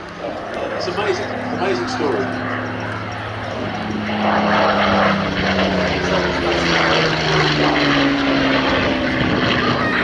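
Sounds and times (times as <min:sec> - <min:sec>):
propeller aircraft engine passing low: 0:00.0 - 0:10.0.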